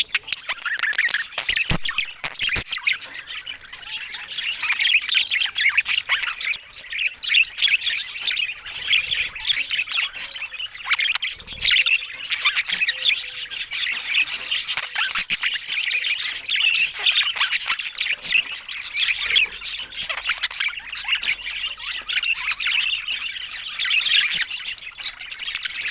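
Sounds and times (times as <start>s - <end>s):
budgerigars chattering: 0.0s - 25.9s.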